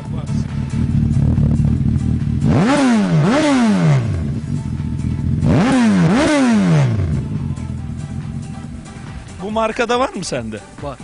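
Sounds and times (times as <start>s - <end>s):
motorcycle throttle revving: 0.0s - 9.4s
motorcycle idling: 0.0s - 10.9s.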